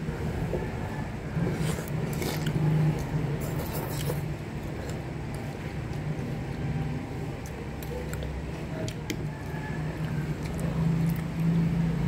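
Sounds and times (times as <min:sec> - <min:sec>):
steady low hum: 0:00.0 - 0:12.0
slurping and chewing noodles: 0:00.6 - 0:12.0.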